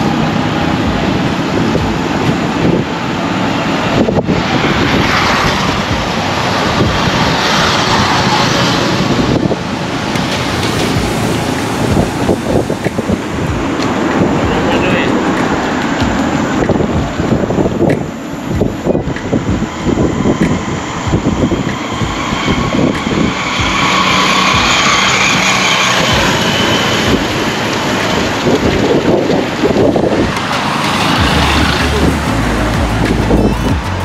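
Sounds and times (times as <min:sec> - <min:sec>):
road traffic: 0:00.0 - 0:34.0
wind buffeting microphone: 0:00.0 - 0:34.0.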